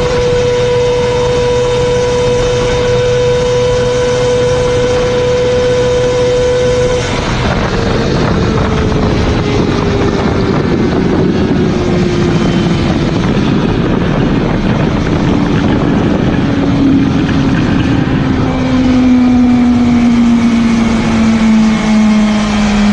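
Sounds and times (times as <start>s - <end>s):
heavy rush of wind: 0.0s - 22.9s
motorcycle engine slowing down: 0.0s - 22.9s.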